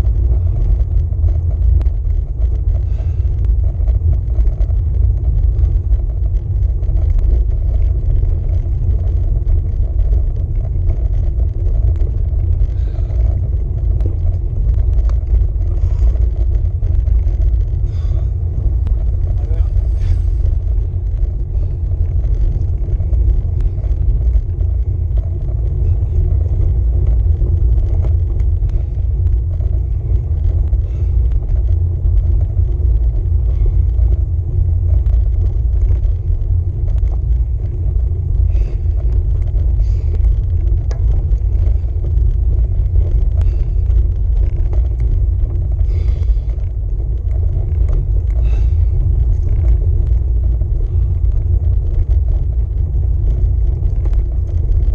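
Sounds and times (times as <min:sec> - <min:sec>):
road vibration rumble: 0:00.0 - 0:54.9
wind buffeting microphone: 0:00.0 - 0:54.9.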